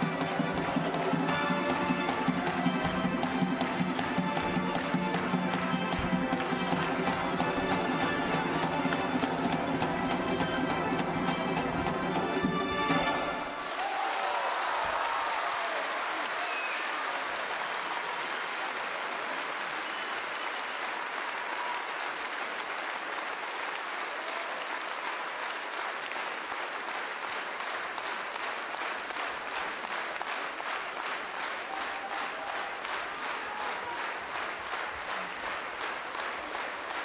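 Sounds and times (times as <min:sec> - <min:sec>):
rhythmic clapping in unison: 0:00.0 - 0:13.8, 0:15.8 - 0:37.0
people cheering: 0:00.0 - 0:26.2, 0:28.3 - 0:37.0
audience applauding: 0:00.0 - 0:37.0.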